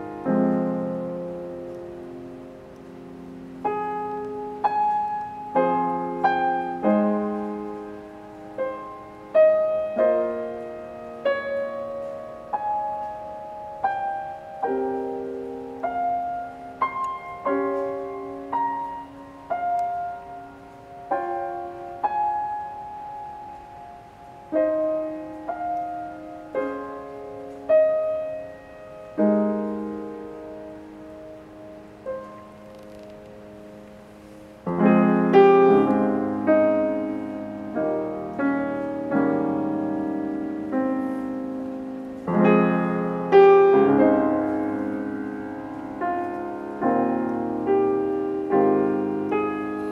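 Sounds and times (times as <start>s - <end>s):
slow piano chords: 0.0s - 49.9s.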